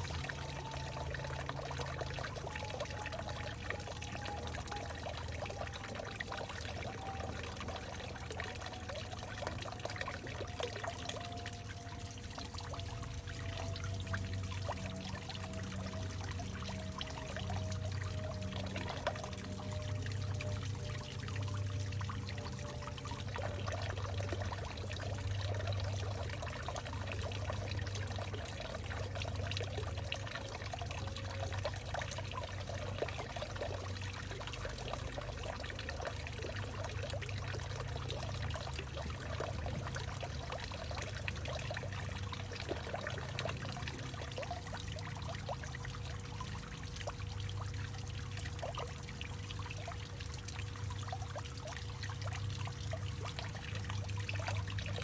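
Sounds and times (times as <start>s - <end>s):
water drips and splashes: 0.0s - 55.0s
water trickling and pouring: 0.0s - 55.0s.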